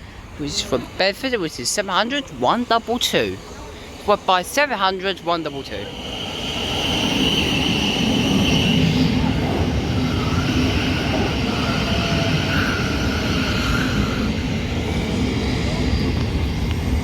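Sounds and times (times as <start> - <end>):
electric train rumbling: 0.0 - 17.0
high whine of train: 0.0 - 17.0.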